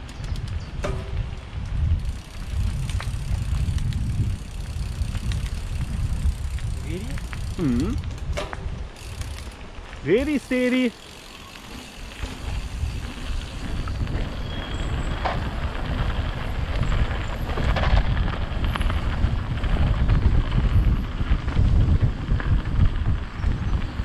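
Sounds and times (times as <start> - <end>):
wind buffeting microphone: 0.0 - 10.6, 11.8 - 24.0
bike rattling over bumps: 0.0 - 24.0
bike tyre rumble: 0.0 - 24.0.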